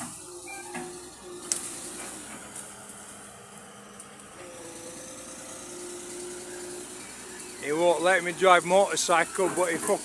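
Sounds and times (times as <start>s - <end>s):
excavator engine running: 0.0s - 10.0s.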